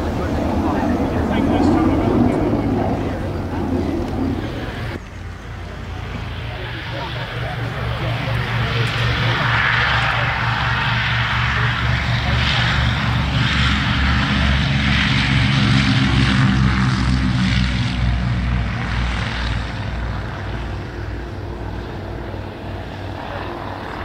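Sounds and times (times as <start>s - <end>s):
twin propeller engines throbbing: 0.0s - 24.0s.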